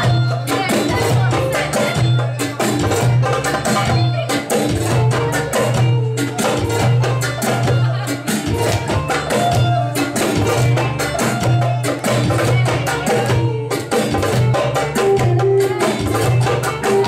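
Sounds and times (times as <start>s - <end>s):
music with fast percussion beat: 0.0s - 17.0s.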